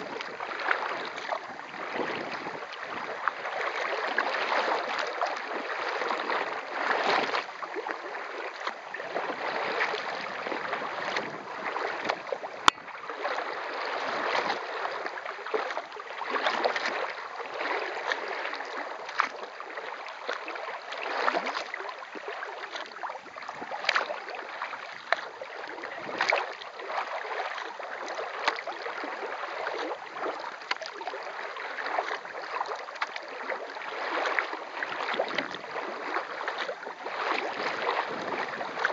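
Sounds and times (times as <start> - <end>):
kayak paddle splashing water: 0.0 - 38.9.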